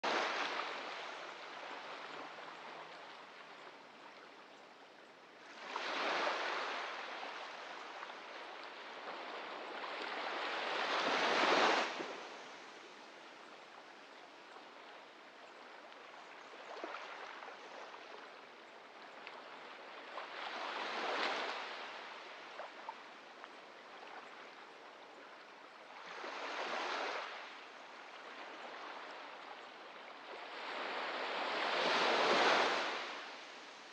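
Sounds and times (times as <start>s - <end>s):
waves breaking on beach: 0.0s - 4.4s, 5.4s - 33.9s.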